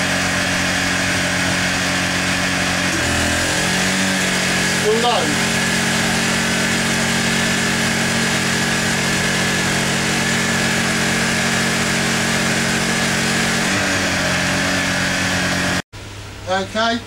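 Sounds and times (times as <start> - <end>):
generator running: 0.0 - 17.0.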